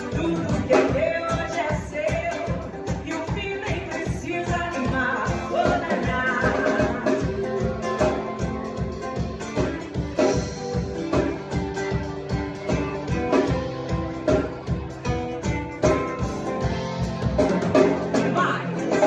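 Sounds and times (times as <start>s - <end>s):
live guitar over a steady beat: 0.0s - 19.0s.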